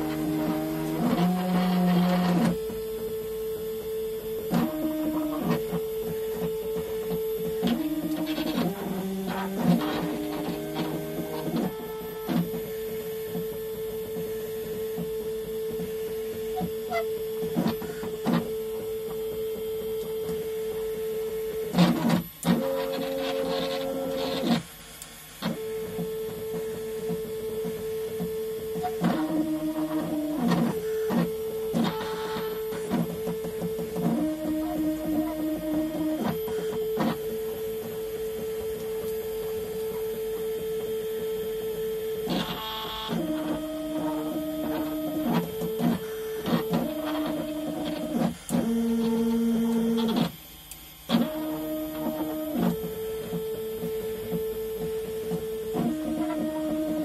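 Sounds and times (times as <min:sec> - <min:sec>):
stepper motors whining: 0:00.0 - 0:24.7, 0:25.4 - 0:57.0.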